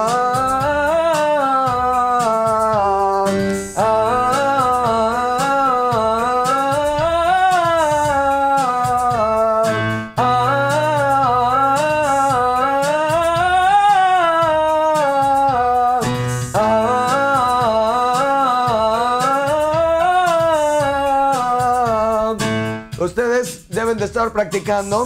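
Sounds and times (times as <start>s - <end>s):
electronic keyboard: 0.0s - 25.0s
man singing vocal scales: 0.0s - 25.0s.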